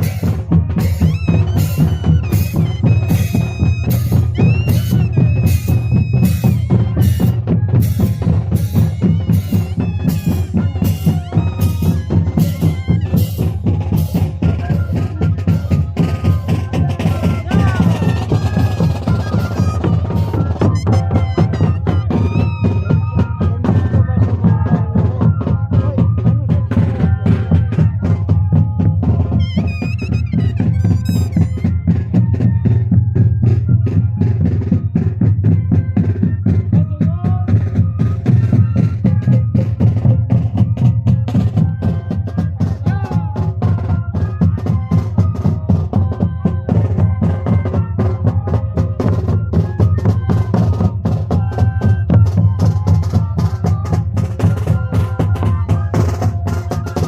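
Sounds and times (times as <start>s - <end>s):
bass drum and snare beats: 0.0s - 57.0s
cane flutes droning melody: 0.0s - 57.0s.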